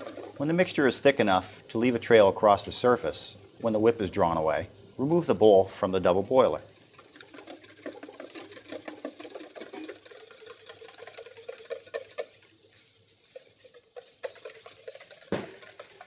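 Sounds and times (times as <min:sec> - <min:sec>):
wire whisk beating in metal bowl: 0:00.0 - 0:16.0.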